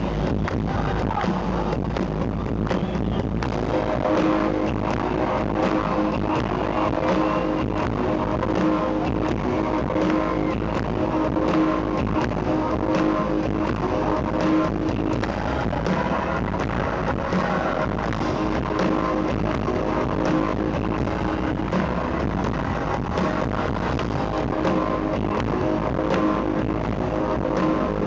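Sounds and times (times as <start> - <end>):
distorted electric guitar riff: 0.0 - 28.0.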